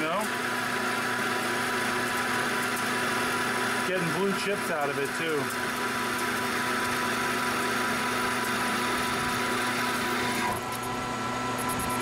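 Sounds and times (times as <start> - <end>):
lathe machine hum: 0.0 - 12.0.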